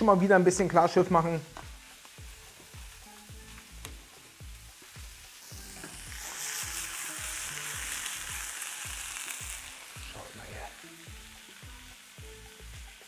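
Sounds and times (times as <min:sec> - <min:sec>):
oil sizzling in a frying pan: 0:00.0 - 0:13.0
soft music with low beat: 0:00.0 - 0:13.0.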